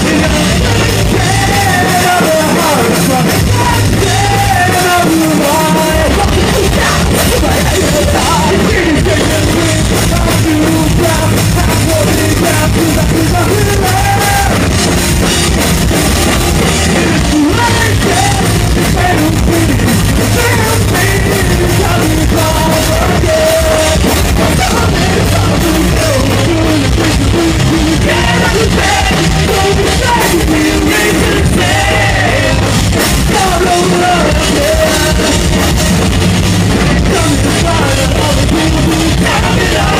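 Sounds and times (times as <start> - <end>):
live punk rock band: 0.0 - 39.9
person singing: 0.0 - 39.9.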